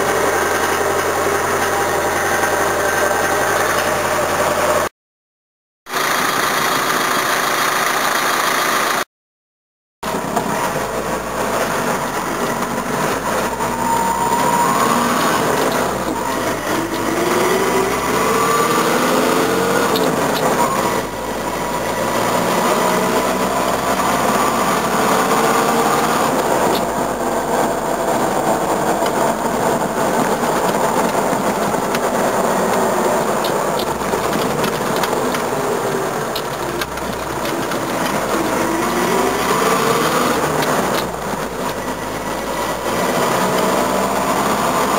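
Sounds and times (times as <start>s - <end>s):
diesel engine revving: 0.0s - 4.9s, 5.9s - 9.1s, 10.0s - 44.9s.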